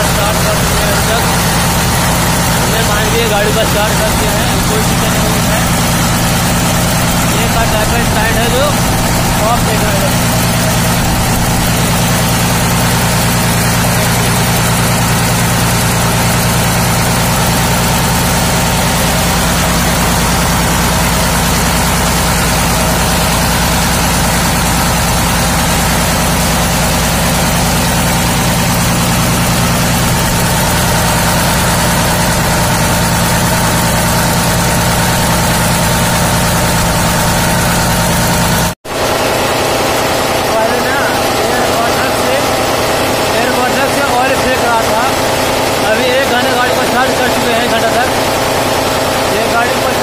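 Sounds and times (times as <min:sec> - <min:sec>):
truck diesel engine idling: 0:00.0 - 0:50.0.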